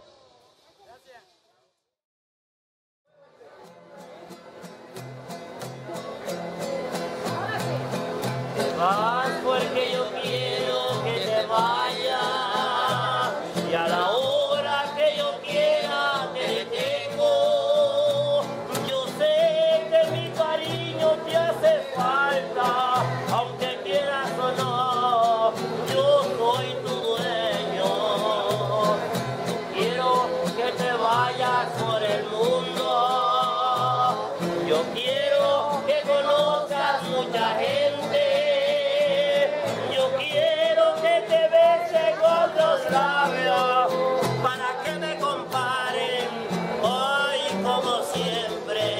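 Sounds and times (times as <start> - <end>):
strummed acoustic guitar: 3.4 - 48.9
plucked bass guitar line: 4.8 - 48.9
man singing with vibrato: 8.4 - 48.9.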